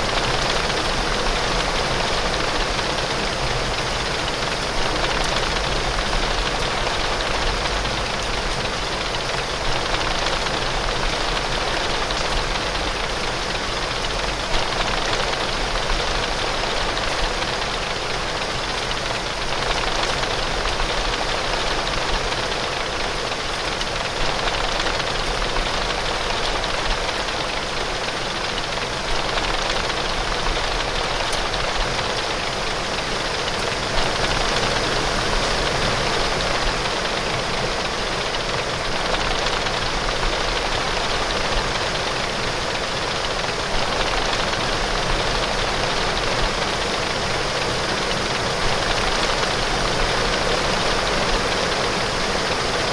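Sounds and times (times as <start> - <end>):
heavy rain on window: 0.0 - 52.9.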